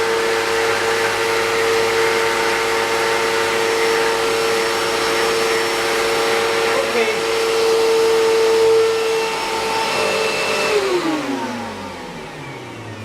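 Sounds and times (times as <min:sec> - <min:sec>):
vacuum cleaner running: 0:00.0 - 0:13.0
vacuum motor spinning down: 0:00.0 - 0:13.0.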